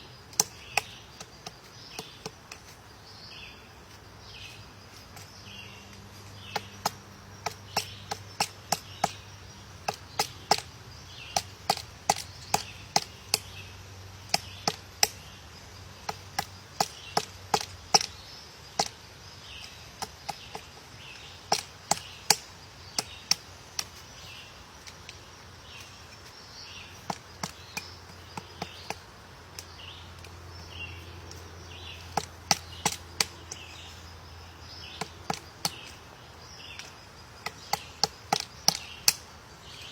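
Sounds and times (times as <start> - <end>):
woodpecker pecking tree: 0.2 - 3.1, 3.8 - 39.9.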